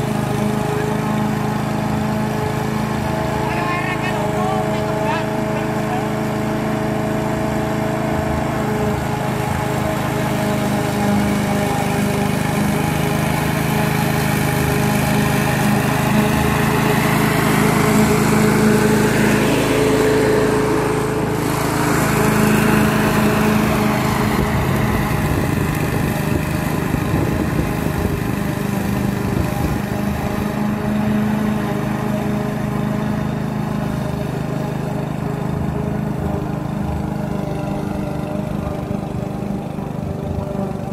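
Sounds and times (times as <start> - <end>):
lawn mower engine cutting grass: 0.0 - 40.9.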